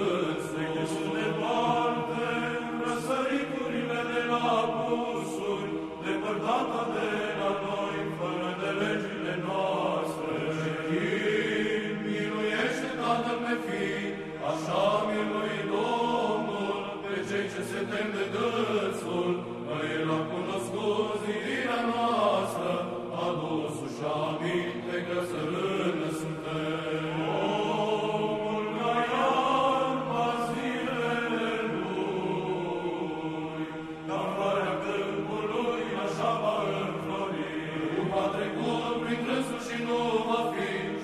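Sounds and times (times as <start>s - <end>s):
voices chanting slow melody: 0.0s - 41.0s.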